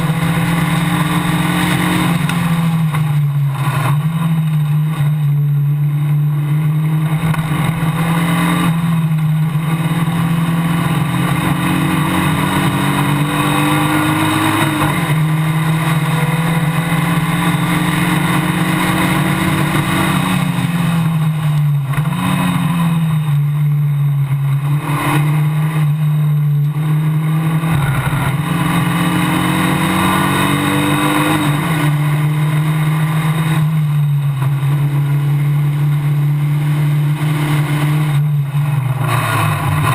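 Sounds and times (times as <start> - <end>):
low drone and rushing noise: 0.0 - 39.9
race car engine revving: 6.3 - 39.9.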